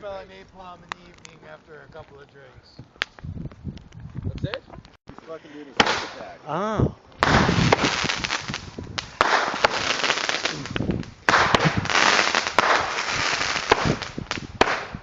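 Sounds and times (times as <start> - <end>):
fireworks cracking and popping: 0.0 - 5.0, 5.8 - 6.3, 7.2 - 15.0.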